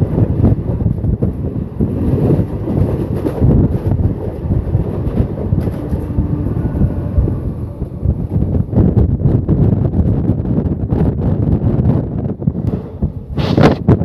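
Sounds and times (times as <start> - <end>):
train rumbling on track: 0.0 - 14.0
wind buffeting microphone: 0.0 - 14.0.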